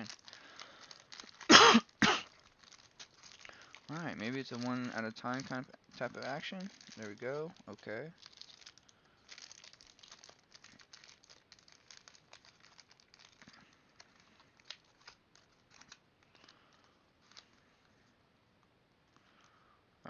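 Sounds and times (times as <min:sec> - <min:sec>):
packaging crinkling: 0:00.0 - 0:17.8.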